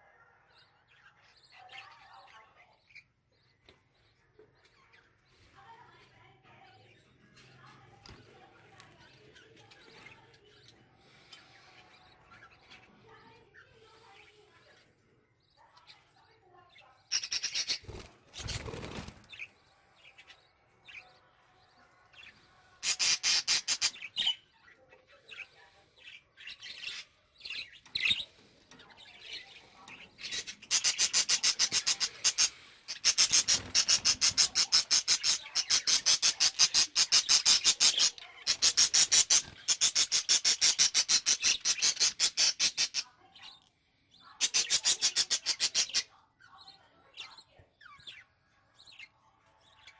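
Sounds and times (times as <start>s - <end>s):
pet birds chirping: 0.0s - 49.9s.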